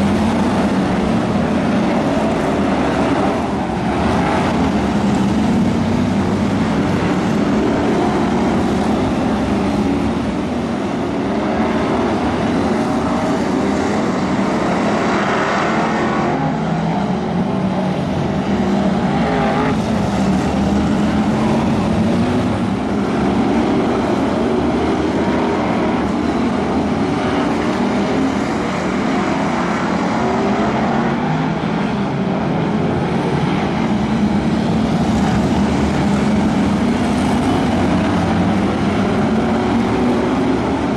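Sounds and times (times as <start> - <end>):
racing car engines roaring: 0.0 - 40.9.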